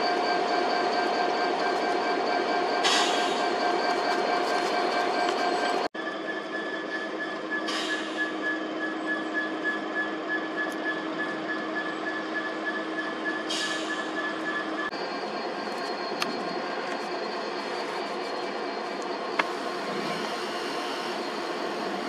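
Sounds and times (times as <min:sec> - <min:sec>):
diesel locomotive idling: 0:00.0 - 0:22.0.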